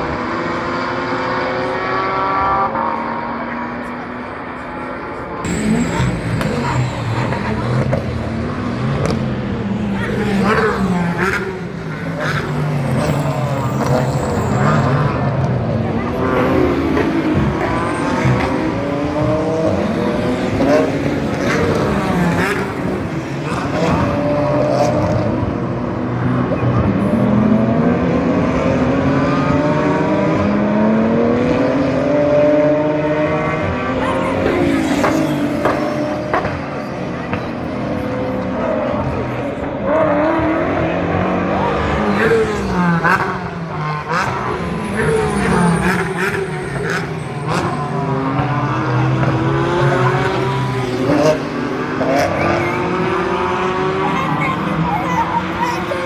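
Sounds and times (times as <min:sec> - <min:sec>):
race car engines accelerating: 0:00.0 - 0:56.0.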